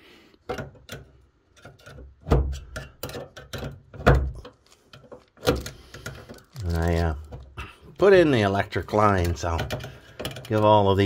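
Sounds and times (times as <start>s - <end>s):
clicks and knocks on metal conduit: 0.4s - 7.6s, 8.5s - 11.0s.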